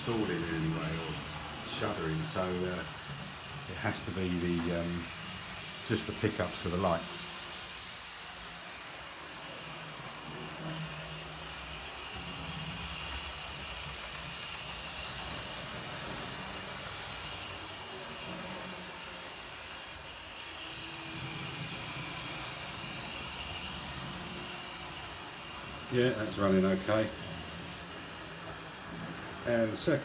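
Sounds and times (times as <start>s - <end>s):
model train motor whirring: 0.0s - 30.0s
wheels rolling on rails: 0.0s - 30.0s.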